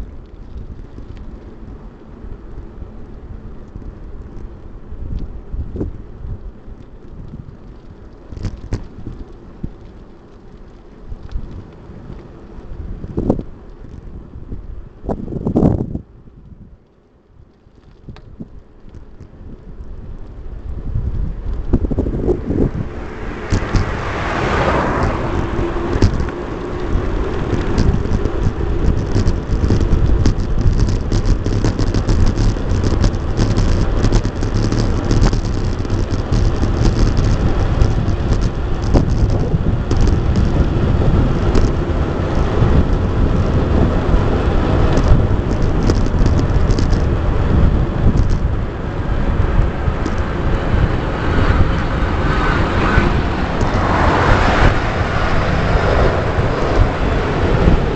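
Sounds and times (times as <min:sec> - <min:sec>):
bike rattling and clicking: 0:00.0 - 0:57.9
wind buffeting microphone: 0:00.0 - 0:57.9.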